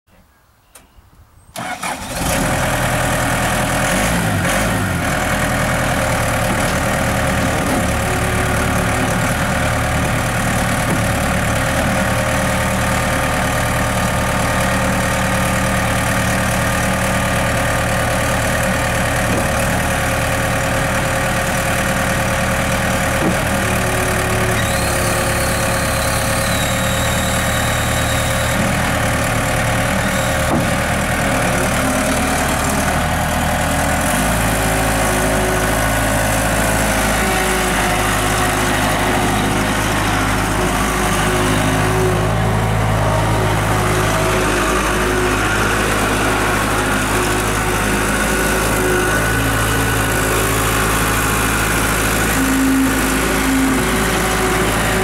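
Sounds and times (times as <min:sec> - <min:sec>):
diesel engine starting and running: 0:01.5 - 0:55.0.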